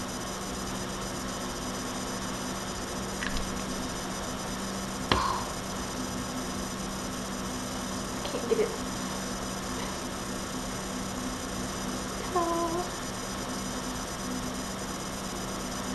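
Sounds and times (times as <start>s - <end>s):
microphone hiss and electrical hum: 0.0s - 15.9s.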